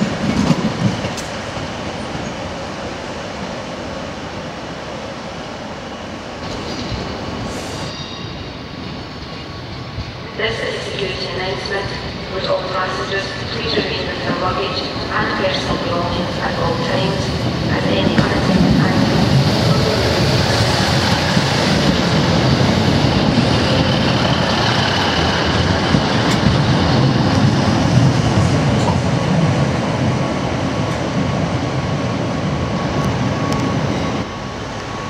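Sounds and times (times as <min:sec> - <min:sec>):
diesel train engines running: 0:00.0 - 0:35.0
train wheels rumbling on track: 0:00.0 - 0:35.0.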